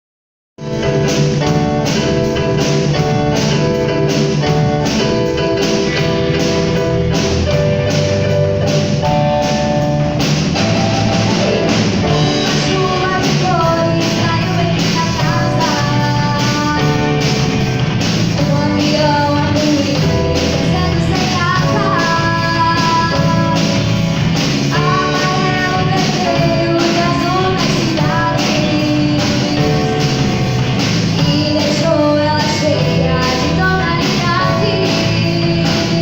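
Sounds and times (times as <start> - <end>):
band playing a song: 0.6 - 36.0
steady drum beat: 0.6 - 36.0.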